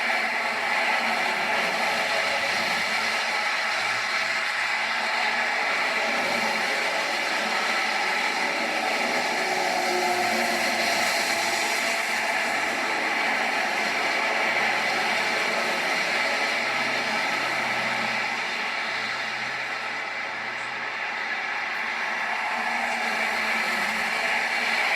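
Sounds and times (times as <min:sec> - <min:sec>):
jet airliner rushing noise: 0:00.0 - 0:24.9.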